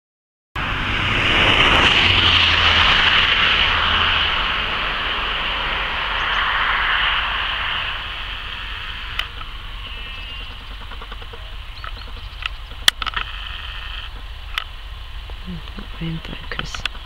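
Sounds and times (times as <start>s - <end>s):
aircraft roaring overhead: 0.6s - 17.0s.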